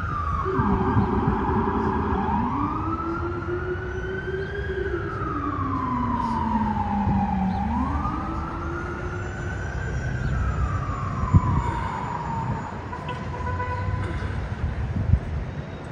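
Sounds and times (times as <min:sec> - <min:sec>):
fire engine siren wailing: 0:00.0 - 0:15.5
street traffic rumble: 0:00.0 - 0:15.9.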